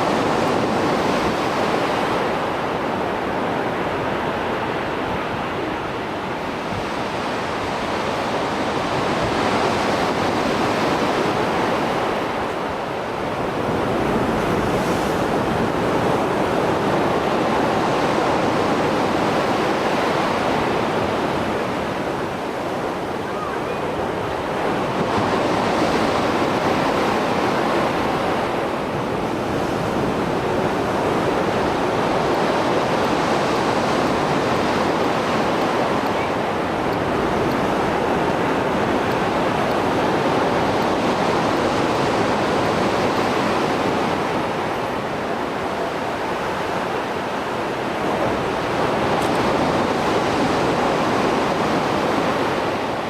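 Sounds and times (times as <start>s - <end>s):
waves breaking on shore: 0.0s - 53.0s.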